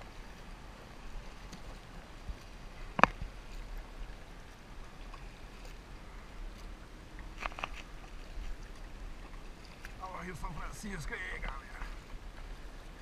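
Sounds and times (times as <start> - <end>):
paddle splashing water: 0.0 - 13.0.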